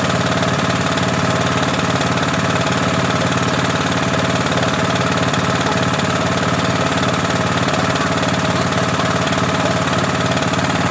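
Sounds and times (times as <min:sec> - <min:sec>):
engine idling with knocking rhythm: 0:00.0 - 0:10.9.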